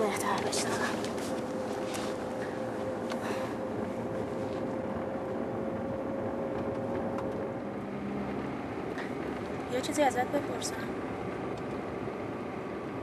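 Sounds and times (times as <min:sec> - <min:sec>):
car engine and road noise: 0:00.0 - 0:13.0
thin steady whine: 0:00.0 - 0:13.0.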